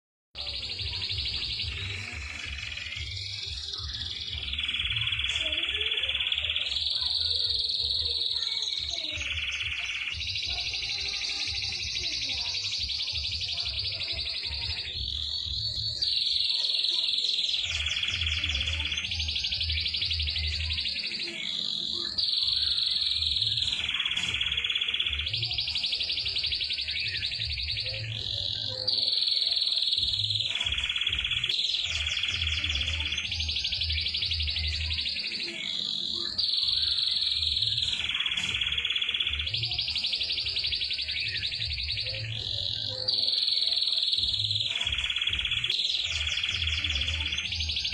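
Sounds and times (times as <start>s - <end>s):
canary trilling song: 0.4s - 47.9s.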